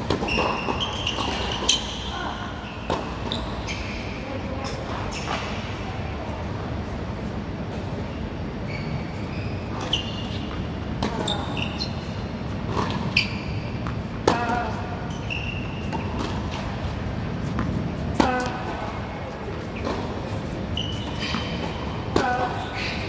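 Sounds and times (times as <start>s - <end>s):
tennis shoes squeaking: 0.0s - 5.8s, 7.7s - 23.0s.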